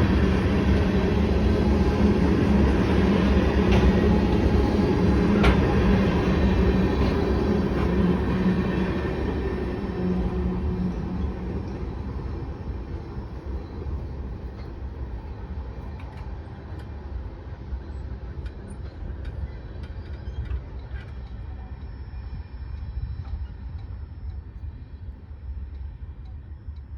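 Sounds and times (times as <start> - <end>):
freight train rumbling past: 0.0 - 26.8.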